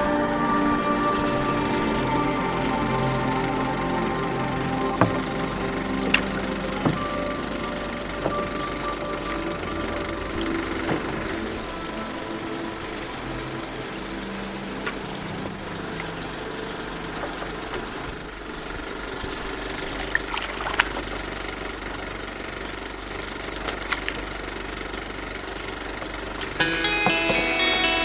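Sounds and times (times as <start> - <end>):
paddling water rush: 0.0 - 27.6.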